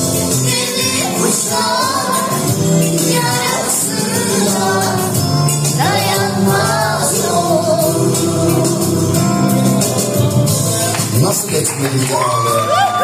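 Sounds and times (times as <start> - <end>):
backing music with bass line: 0.0 - 13.0.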